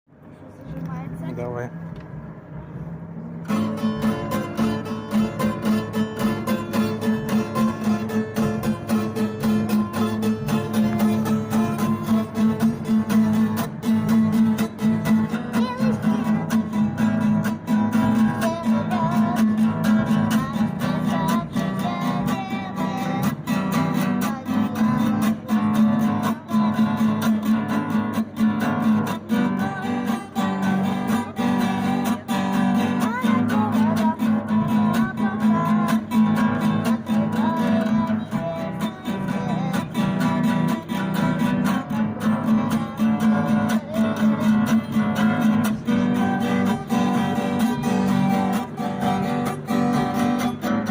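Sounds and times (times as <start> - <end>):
acoustic guitar strumming: 3.2 - 50.9.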